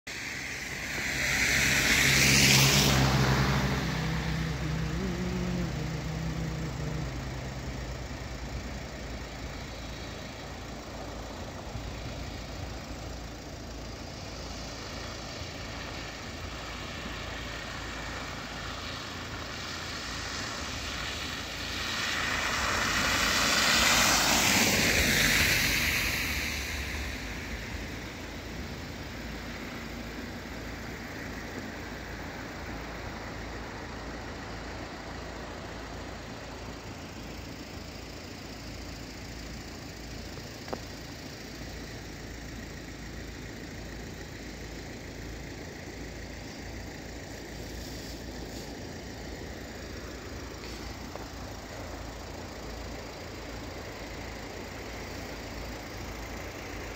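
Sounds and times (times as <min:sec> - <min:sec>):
vehicles passing on wet road: 0:00.1 - 0:56.9.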